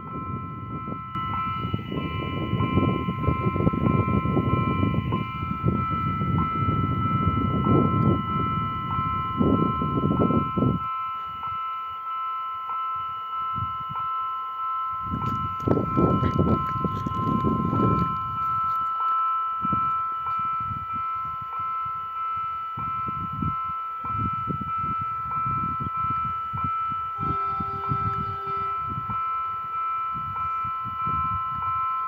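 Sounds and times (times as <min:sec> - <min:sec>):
level crossing warning tone: 0:00.0 - 0:32.0.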